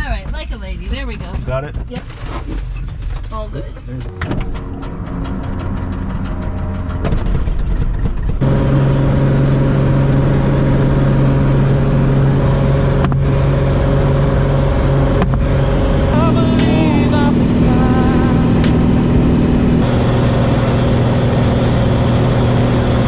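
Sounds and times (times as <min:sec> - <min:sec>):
piston engine starting and running: 0:00.0 - 0:23.0
propeller drone: 0:03.8 - 0:23.0.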